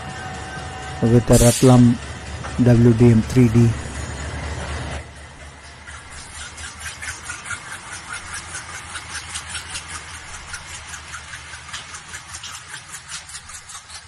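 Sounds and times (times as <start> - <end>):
diesel locomotive engine running: 0.0 - 14.0
rhythmic train clatter: 0.0 - 14.0.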